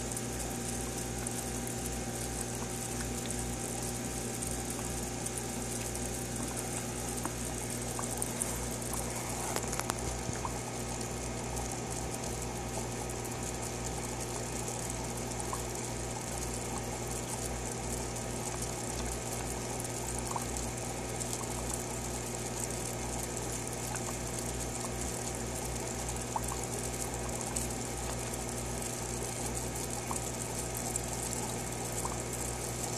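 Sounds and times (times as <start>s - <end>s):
aquarium filter hum: 0.0s - 32.9s
water trickling and bubbling: 0.0s - 32.9s.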